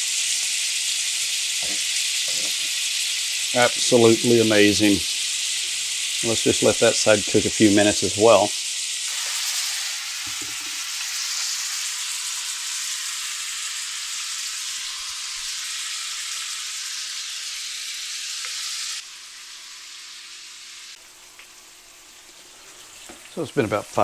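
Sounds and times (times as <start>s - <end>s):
meat and onions sizzling: 0.0s - 24.0s.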